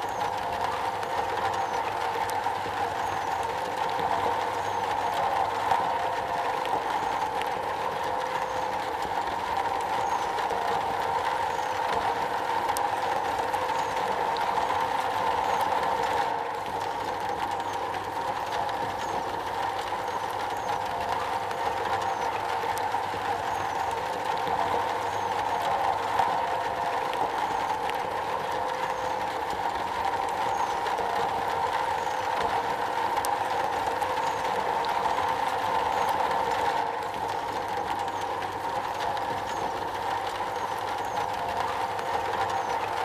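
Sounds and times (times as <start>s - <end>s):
heavy rain on a metal roof: 0.0s - 43.0s.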